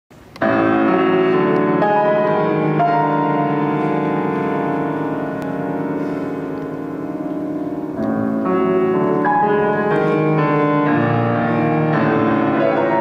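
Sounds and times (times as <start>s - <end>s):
grand piano: 0.1s - 13.0s.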